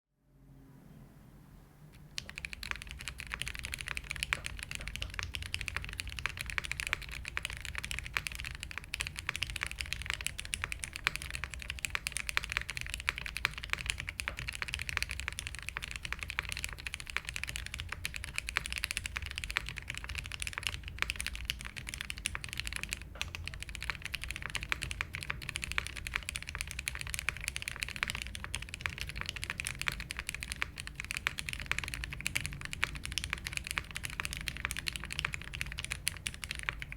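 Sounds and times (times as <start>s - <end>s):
mechanical keyboard typing: 2.0s - 36.9s.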